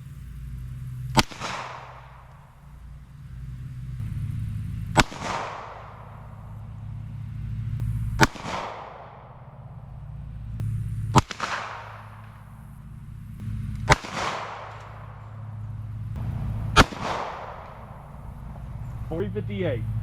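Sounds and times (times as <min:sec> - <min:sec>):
steady low hum: 0:00.0 - 0:20.0
gunshots with echo: 0:01.0 - 0:02.7, 0:03.4 - 0:20.0.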